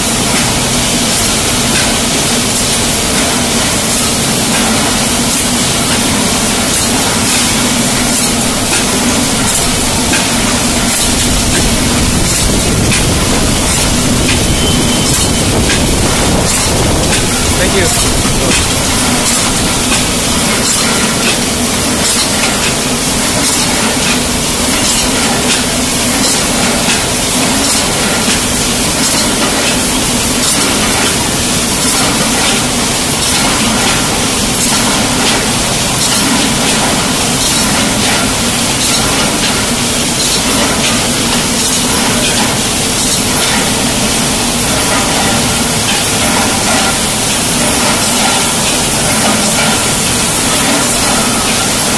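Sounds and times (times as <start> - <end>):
machine hiss and hum: 0.0 - 51.9.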